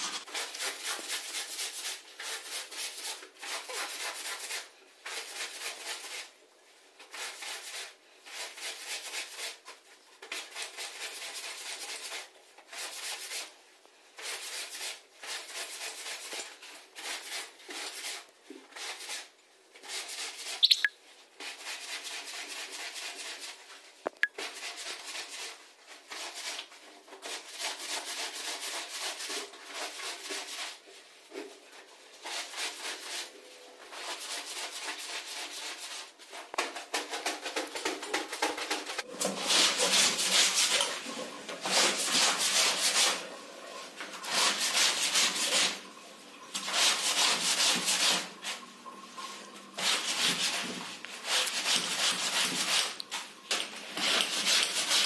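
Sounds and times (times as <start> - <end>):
brush scrubbing wet shirt: 0.0 - 13.6, 14.2 - 55.0.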